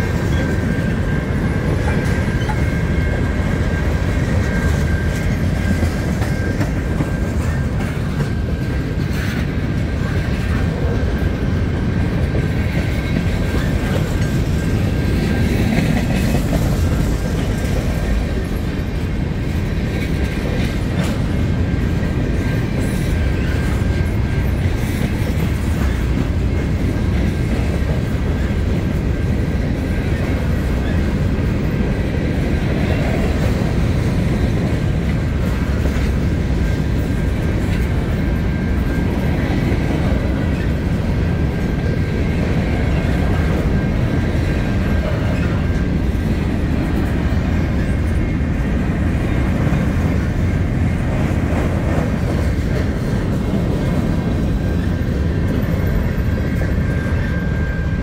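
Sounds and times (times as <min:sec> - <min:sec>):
wheels clacking over rail joints: 0:00.0 - 0:57.7
freight cars rumbling on rails: 0:00.0 - 0:58.0.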